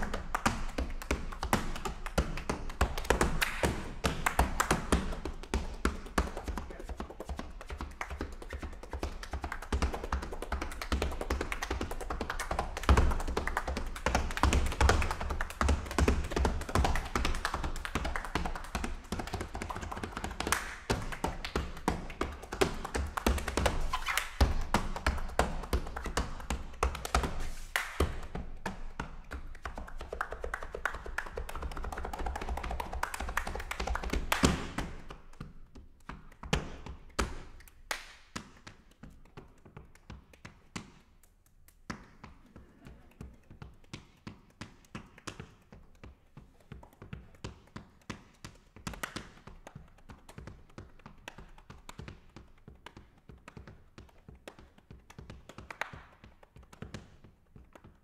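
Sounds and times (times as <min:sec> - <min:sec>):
hand claps and slaps: 0:00.0 - 0:58.0.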